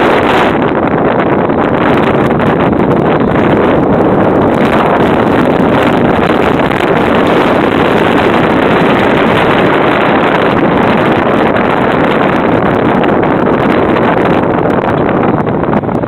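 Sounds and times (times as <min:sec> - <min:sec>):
boat rushing over choppy water: 0:00.0 - 0:16.0
wind buffeting microphone: 0:00.0 - 0:16.0.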